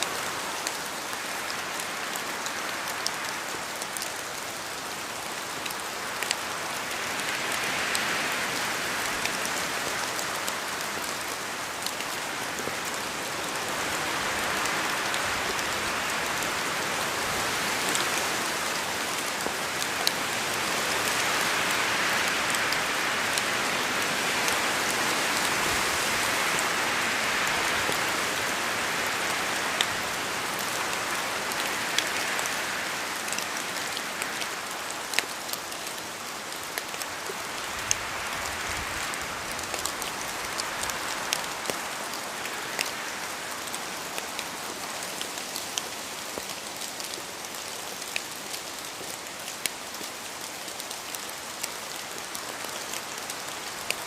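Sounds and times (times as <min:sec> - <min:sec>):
raindrops ticking on a surface: 0:00.0 - 0:54.0
steady rain hiss: 0:00.0 - 0:54.0.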